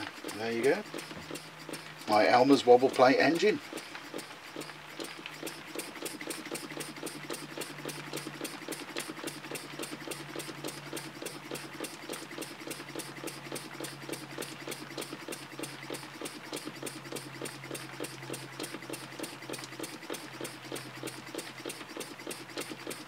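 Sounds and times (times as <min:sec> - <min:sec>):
model steam engine ticking: 0:00.0 - 0:23.0.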